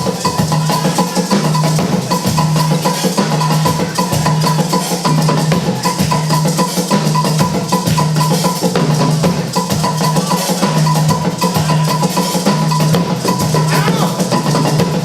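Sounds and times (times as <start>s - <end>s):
fast drum strikes: 0.0s - 15.0s.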